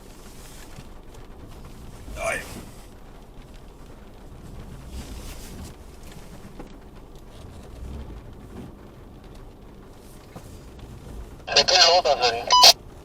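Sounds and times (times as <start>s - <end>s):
pickup engine running at low revs: 0.0s - 13.0s
rain pattering on vehicle: 0.0s - 13.0s.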